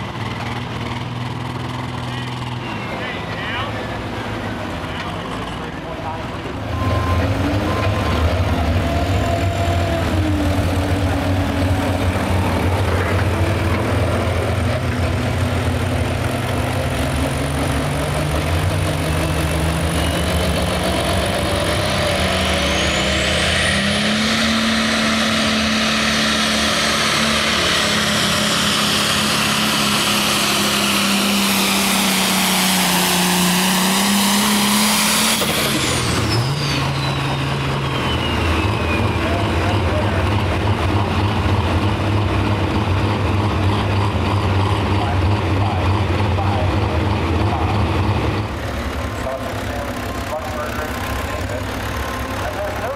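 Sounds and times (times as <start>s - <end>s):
diesel engine revving: 0.0s - 52.9s
high turbo whine: 0.0s - 52.9s.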